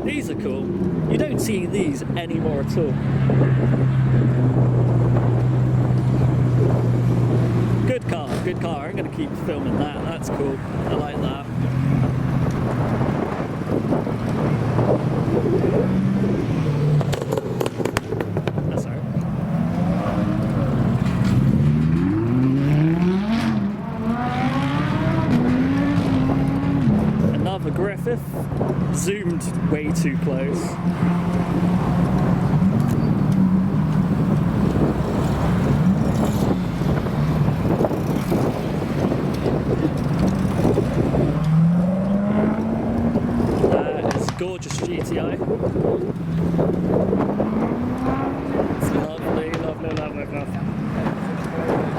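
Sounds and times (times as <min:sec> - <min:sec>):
wind buffeting microphone: 0:00.0 - 0:51.9
car engine at low revs: 0:09.1 - 0:51.9.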